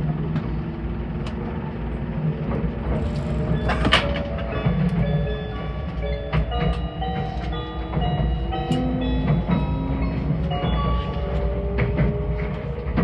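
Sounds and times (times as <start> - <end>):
train rumbling: 0.0 - 13.0
wheels clicking on track: 2.4 - 13.0.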